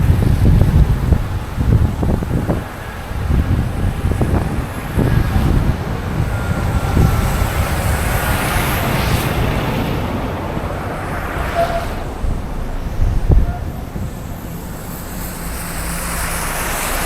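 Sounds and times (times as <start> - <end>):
traffic rumble: 0.0 - 17.0
vehicle passing with hiss: 0.0 - 17.0.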